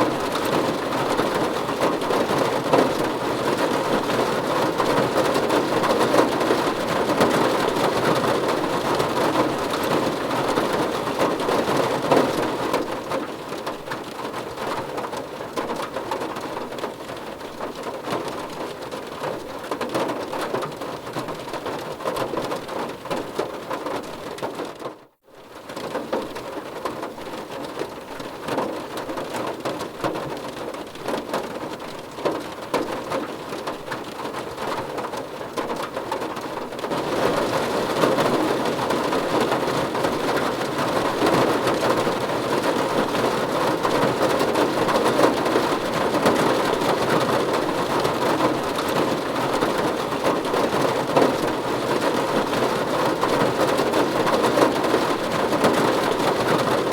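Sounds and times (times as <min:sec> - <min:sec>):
rain on car roof: 0:00.0 - 0:56.9.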